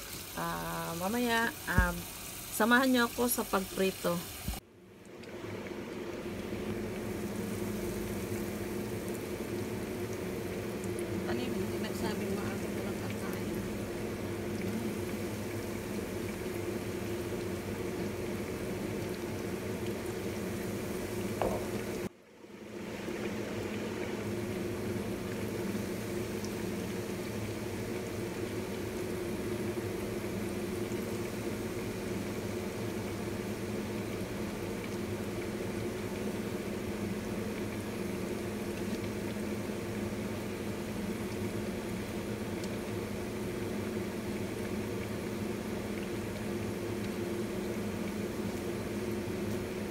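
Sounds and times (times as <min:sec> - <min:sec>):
deep-frying sizzling and bubbling: 0:00.0 - 0:49.9.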